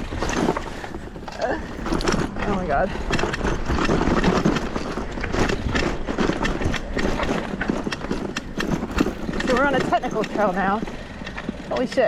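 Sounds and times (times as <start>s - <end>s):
bike rattling over rocks: 0.0s - 12.0s.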